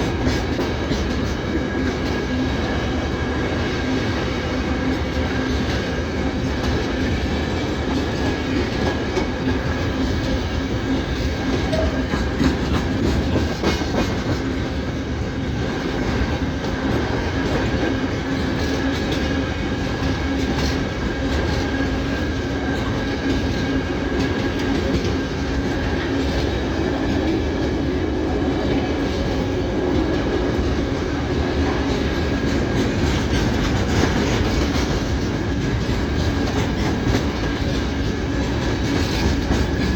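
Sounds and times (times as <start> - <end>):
train running on rails: 0.0 - 39.9.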